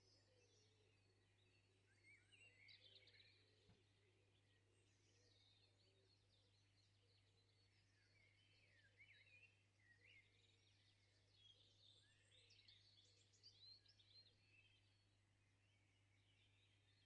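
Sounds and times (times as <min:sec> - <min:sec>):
faint high bird chirps: 0:00.0 - 0:17.0.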